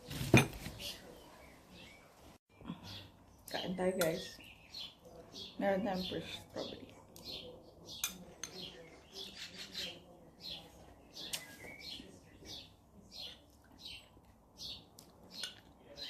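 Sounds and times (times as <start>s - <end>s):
small birds chirping: 0.7s - 16.0s.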